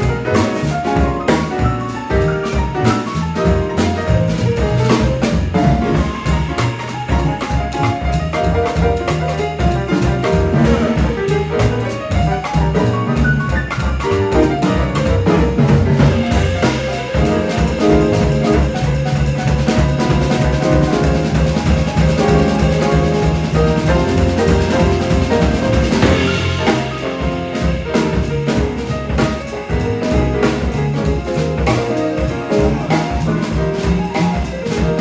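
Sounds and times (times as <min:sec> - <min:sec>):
bass: 0:00.0 - 0:35.0
drum kit groove: 0:00.0 - 0:35.0
piano: 0:00.0 - 0:35.0.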